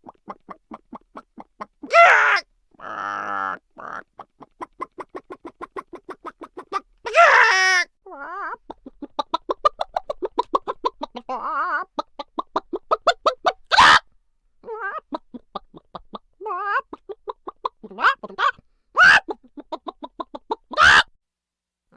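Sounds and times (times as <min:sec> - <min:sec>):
cartoon chicken clucking: 0:00.0 - 0:21.2
chicken squawks: 0:00.2 - 0:21.2.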